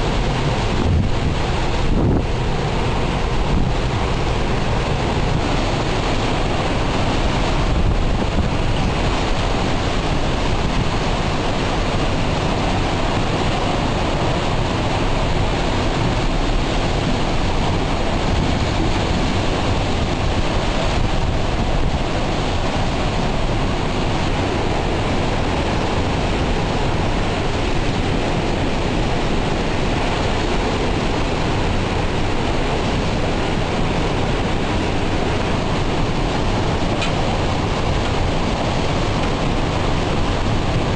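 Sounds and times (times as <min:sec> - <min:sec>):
strong wind through trees: 0:00.0 - 0:40.9
wind buffeting microphone: 0:00.0 - 0:40.9.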